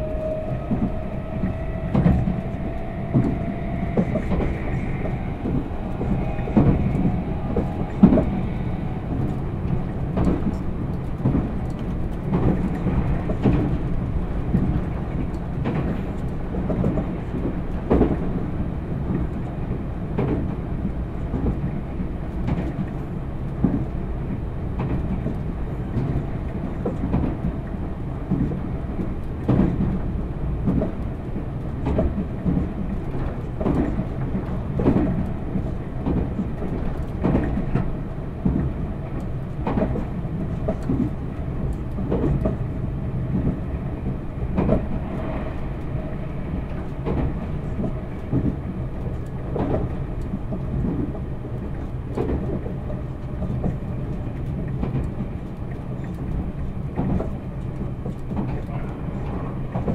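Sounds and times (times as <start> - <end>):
train rumble inside passenger car: 0.0 - 59.9.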